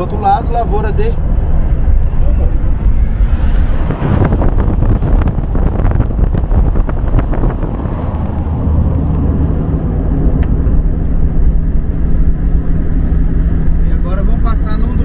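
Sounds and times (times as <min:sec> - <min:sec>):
tyre and road rumble: 0:00.0 - 0:15.0
van engine running: 0:00.0 - 0:15.0.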